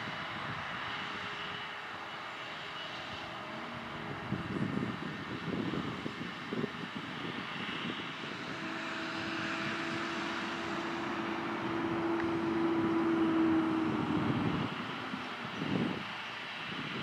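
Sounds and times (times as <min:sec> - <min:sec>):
tractor engine drone: 0:00.0 - 0:17.0.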